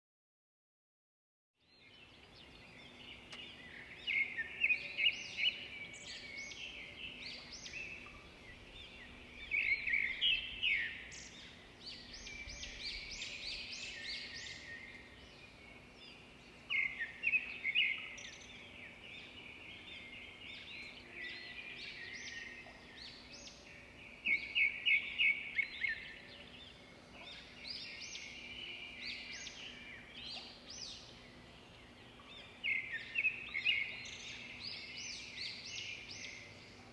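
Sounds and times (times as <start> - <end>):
birds chirping and twittering: 1.6 - 36.9.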